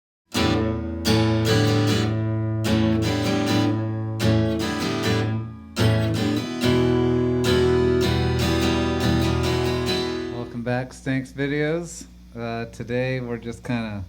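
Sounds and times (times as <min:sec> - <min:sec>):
acoustic guitar strumming chords: 0:00.3 - 0:11.8.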